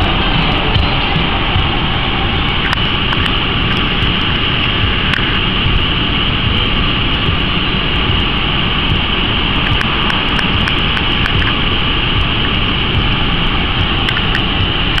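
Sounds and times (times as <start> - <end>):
car engine idling: 0.0 - 15.0
high hiss: 0.0 - 15.0.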